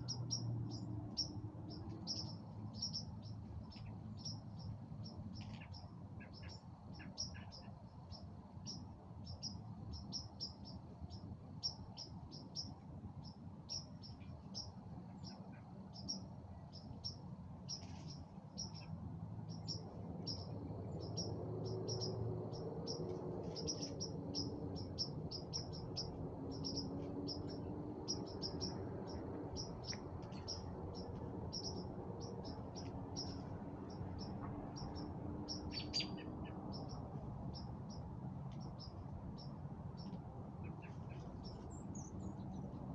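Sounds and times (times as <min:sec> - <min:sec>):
low steady rumble: 0:00.0 - 0:06.6, 0:11.0 - 0:42.9
birds chirping: 0:00.0 - 0:07.7, 0:11.6 - 0:42.8
faint hum: 0:00.0 - 0:42.9.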